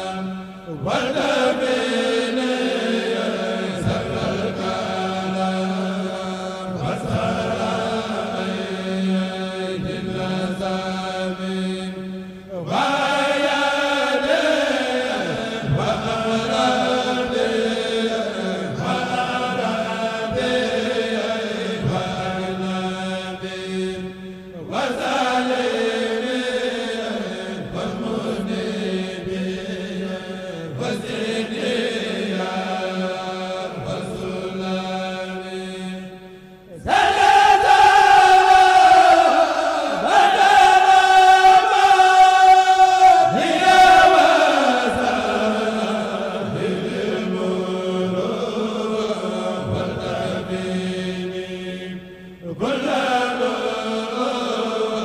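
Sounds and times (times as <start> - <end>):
men chanting over sound system: 0.0 - 55.0.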